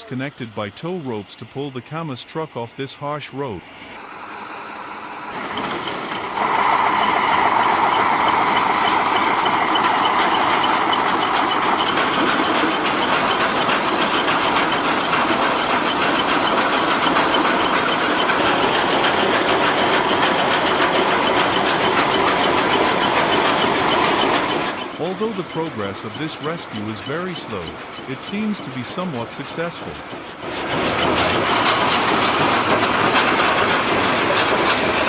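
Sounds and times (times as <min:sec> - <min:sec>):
heavy truck diesel engine under load: 0:00.0 - 0:35.0.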